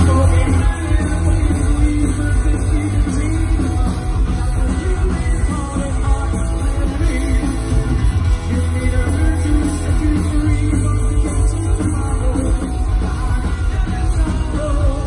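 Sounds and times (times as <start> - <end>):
man singing: 0.0 - 15.0
punk rock band playing: 0.0 - 15.0.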